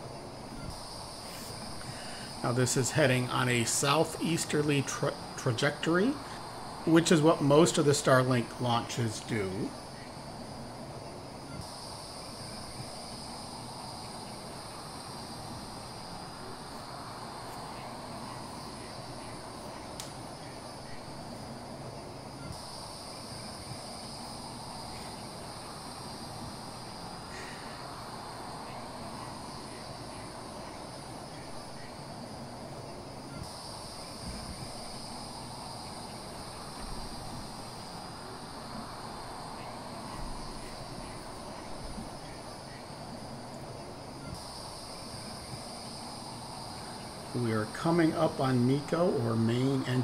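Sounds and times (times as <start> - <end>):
insect chorus: 0.0 - 50.0.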